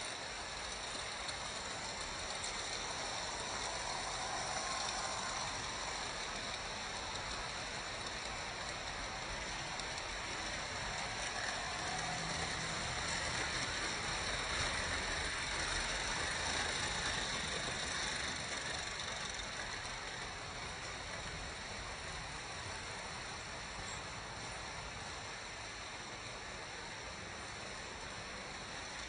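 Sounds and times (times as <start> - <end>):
model trains rolling on metal track: 0.0 - 29.0.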